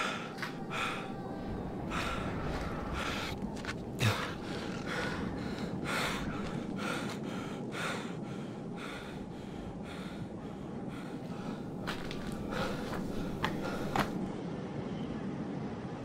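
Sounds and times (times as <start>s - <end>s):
man gasping breaths: 0.0s - 14.2s
steady background hiss: 0.0s - 14.8s.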